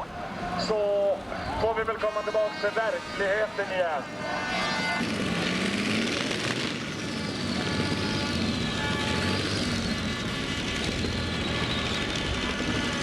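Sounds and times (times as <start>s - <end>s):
tractor engines running loud: 0.0s - 13.0s.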